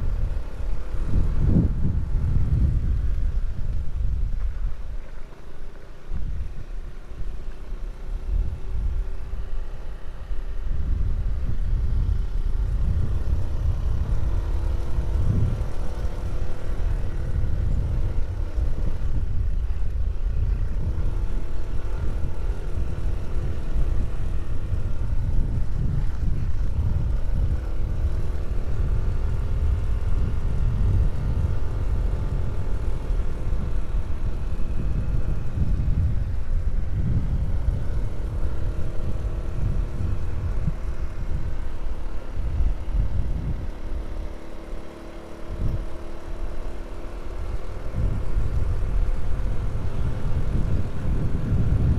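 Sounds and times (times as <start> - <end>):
heavy low rumble: 0.0 - 5.1, 6.0 - 51.9
engine droning: 0.0 - 51.9.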